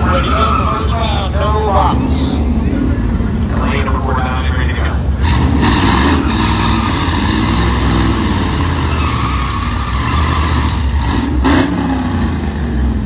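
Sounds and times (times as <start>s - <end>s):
race car engines idling: 0.0s - 13.0s.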